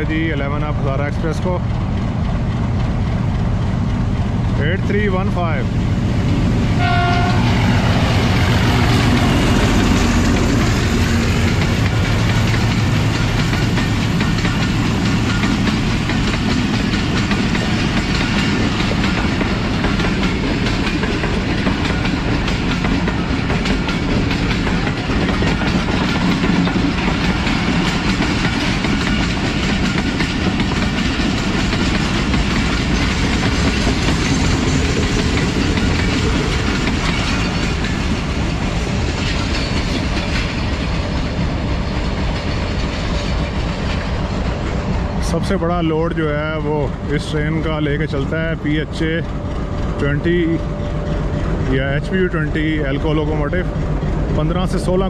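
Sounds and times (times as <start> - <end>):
diesel locomotive passing: 0.0 - 55.0
train wheels clattering over rail joints: 0.0 - 55.0.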